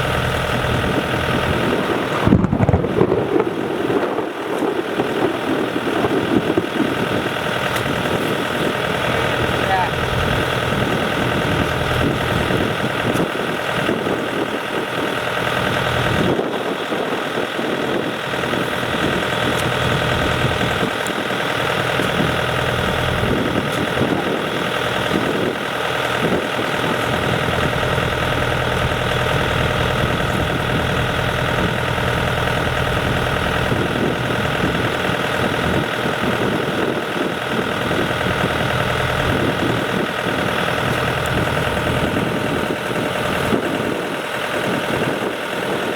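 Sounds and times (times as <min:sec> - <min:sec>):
combine harvester diesel engine: 0:00.0 - 0:45.9
tractor diesel engine: 0:00.0 - 0:45.9.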